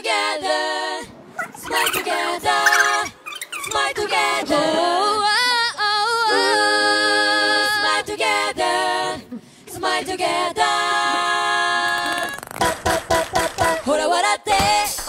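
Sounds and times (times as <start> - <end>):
song with sung vocals: 0.0 - 15.0.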